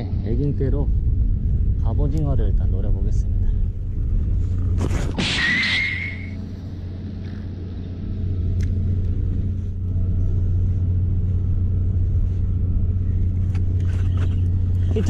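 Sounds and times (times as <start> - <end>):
boat engine humming: 0.0 - 5.2, 5.8 - 15.0.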